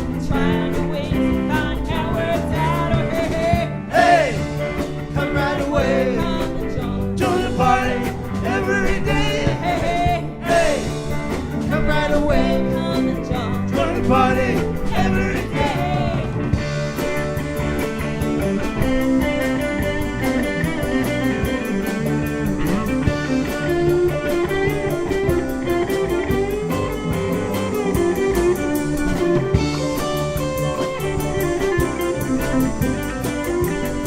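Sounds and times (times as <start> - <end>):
drum kit cymbal beat: 0.0 - 34.0
plucked-string lead: 0.0 - 34.0
rock band playing: 0.0 - 34.0.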